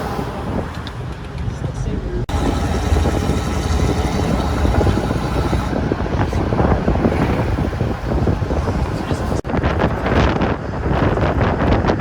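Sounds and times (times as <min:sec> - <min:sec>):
road traffic rumble: 0:00.0 - 0:12.0
wind buffeting microphone: 0:00.0 - 0:12.0.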